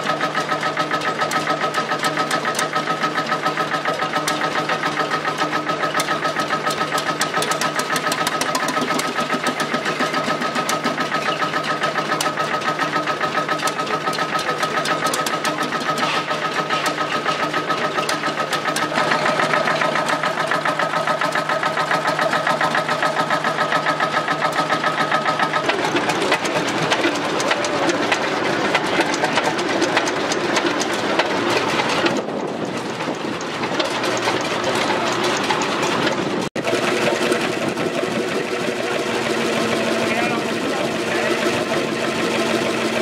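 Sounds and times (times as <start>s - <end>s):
engine exhaust beat: 0.0s - 43.0s.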